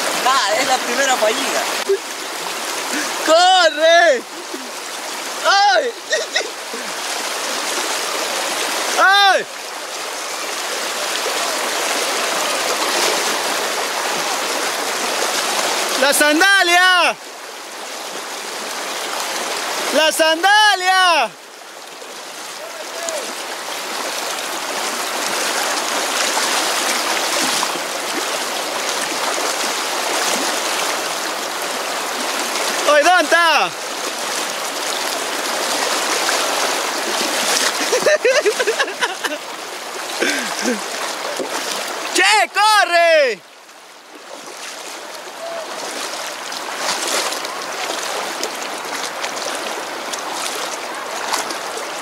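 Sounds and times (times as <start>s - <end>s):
river rushing over rocks: 0.0s - 52.0s
water splashes: 0.0s - 52.0s.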